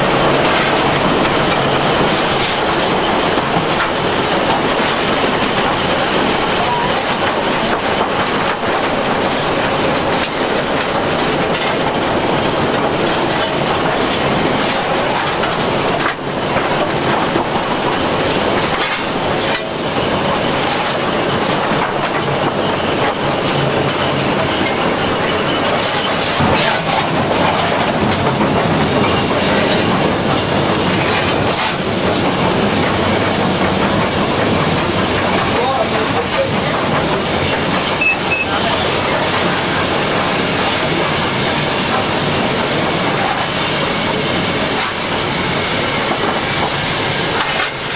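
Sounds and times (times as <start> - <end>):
steam locomotive running: 0.0 - 47.9.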